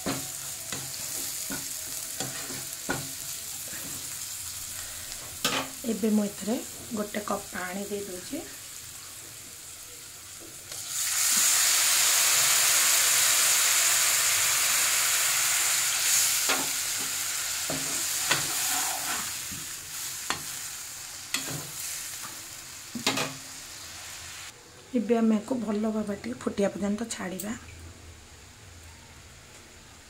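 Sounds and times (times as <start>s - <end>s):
water hissing in hot oil: 0.0s - 24.6s.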